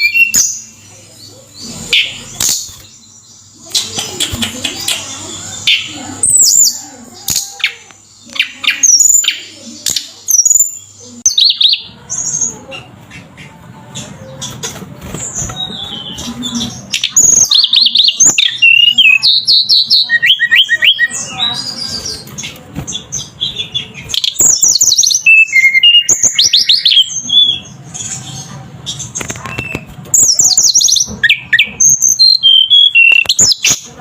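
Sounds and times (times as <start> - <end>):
bird singing warbled phrases: 0.0 - 34.0.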